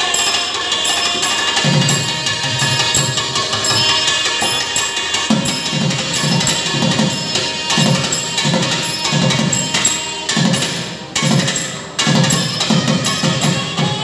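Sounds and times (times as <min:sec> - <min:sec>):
drums in fast rhythm: 0:01.5 - 0:14.0.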